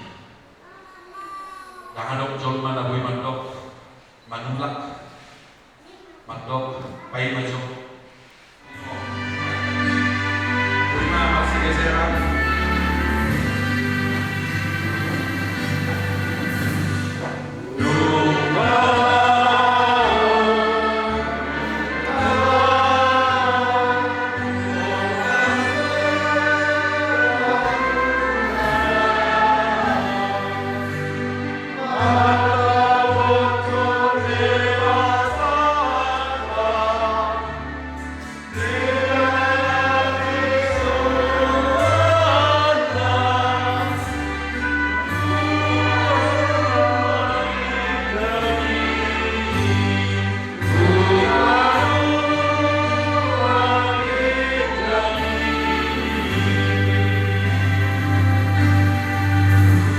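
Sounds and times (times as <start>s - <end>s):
choir singing a hymn: 8.3s - 59.9s
low bass accompaniment: 8.8s - 59.9s.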